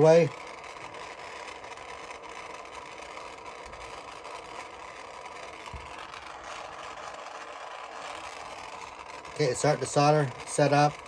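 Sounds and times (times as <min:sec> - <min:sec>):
soldering torch flame hissing: 0:00.0 - 0:11.0.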